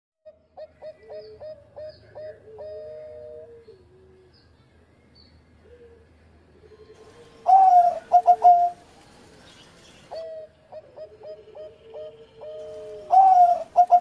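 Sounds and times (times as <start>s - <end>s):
dove cooing: 0.3s - 4.4s, 5.6s - 8.9s, 10.0s - 14.0s.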